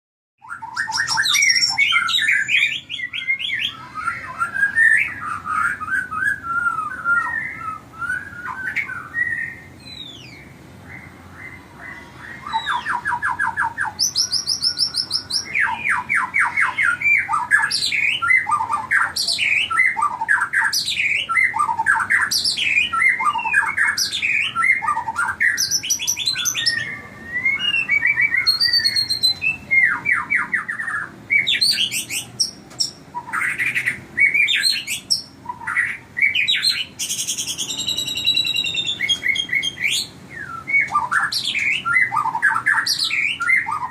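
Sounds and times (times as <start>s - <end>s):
birds calling with rattling trills: 0.4s - 43.9s.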